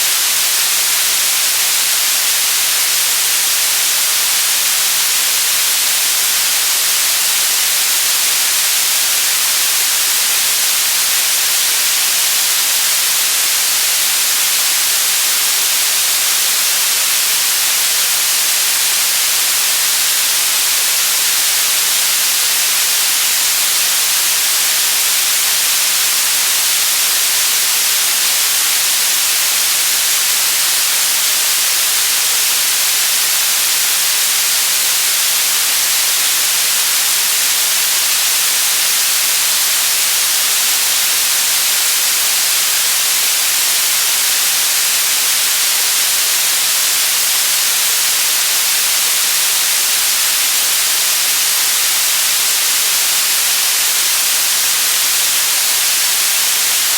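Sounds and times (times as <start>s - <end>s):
loud white noise hiss: 0.0s - 56.9s.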